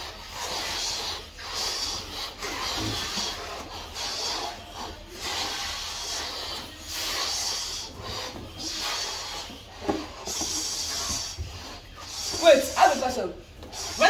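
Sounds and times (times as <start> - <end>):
blowing into balloons: 0.0 - 14.0.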